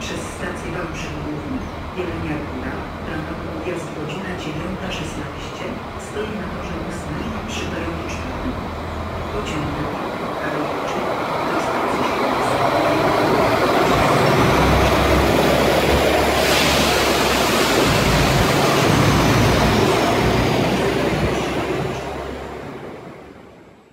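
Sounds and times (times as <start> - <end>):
diesel train engine passing: 0.0 - 23.9.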